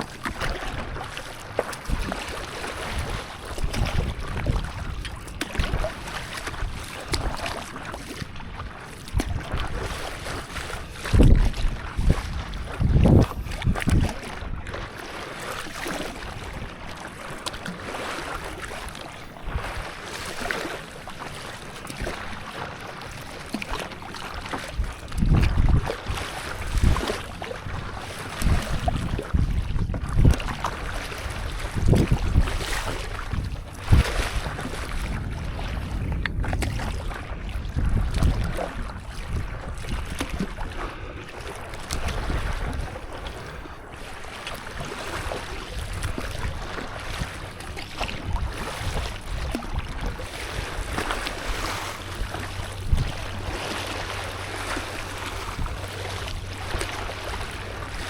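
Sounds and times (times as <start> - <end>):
wind buffeting microphone: 0.0 - 15.0, 24.1 - 58.0
paddle splashing in water: 0.0 - 58.0
sea wash: 0.0 - 58.0.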